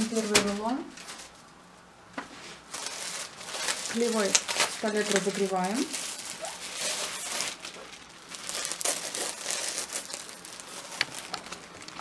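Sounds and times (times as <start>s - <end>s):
crepe paper crinkling: 0.0s - 1.5s, 2.5s - 12.0s.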